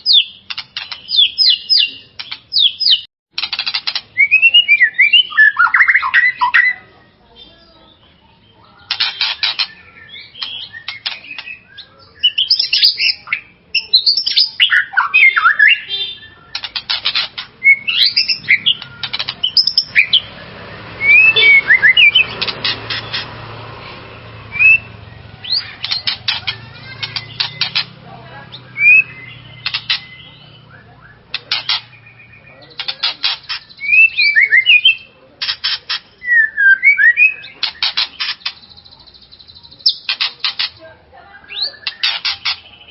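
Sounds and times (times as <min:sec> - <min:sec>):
bird singing whistles and trills: 0:00.0 - 0:03.1, 0:04.2 - 0:06.8, 0:08.3 - 0:23.2, 0:24.4 - 0:26.4, 0:28.5 - 0:35.1, 0:35.9 - 0:40.2, 0:41.3 - 0:42.9.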